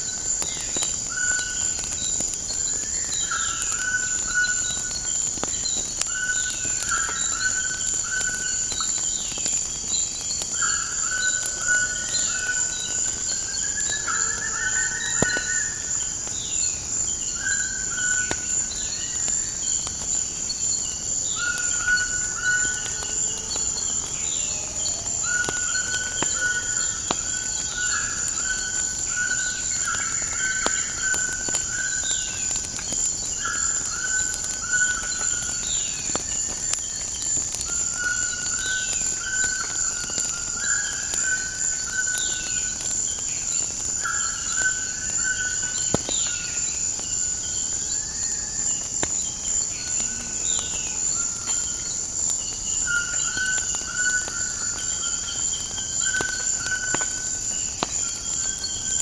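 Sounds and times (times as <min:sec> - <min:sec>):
birds calling with whistled notes: 0:00.0 - 0:59.0
wood fire crackling: 0:00.0 - 0:59.0.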